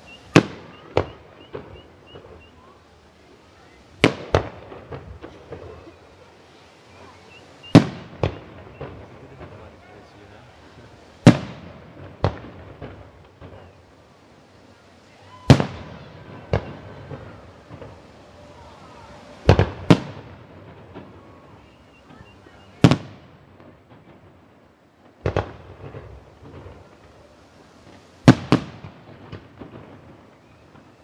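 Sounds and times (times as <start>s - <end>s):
fireworks bangs with echo: 0.0s - 2.8s, 3.6s - 6.3s, 6.9s - 13.9s, 14.7s - 31.0s.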